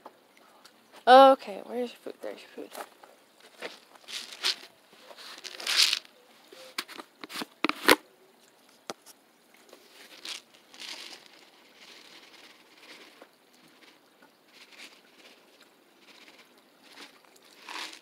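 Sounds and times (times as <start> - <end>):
handling rustling: 2.7 - 8.0, 8.7 - 18.0.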